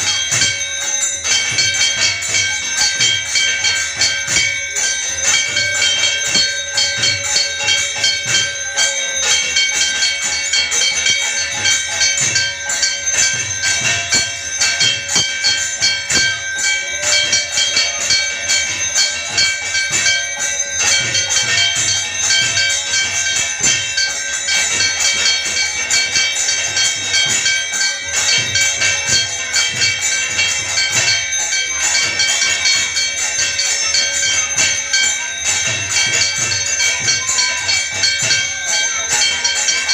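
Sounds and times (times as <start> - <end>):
bells and metal percussion ringing: 0.0 - 39.9.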